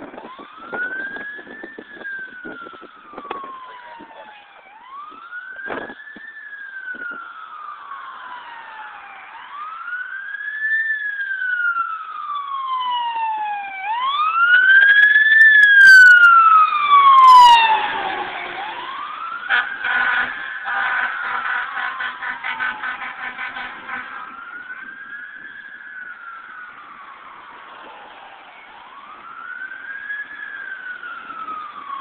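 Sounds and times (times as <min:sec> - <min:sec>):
fire engine siren wailing: 0:00.0 - 0:32.0.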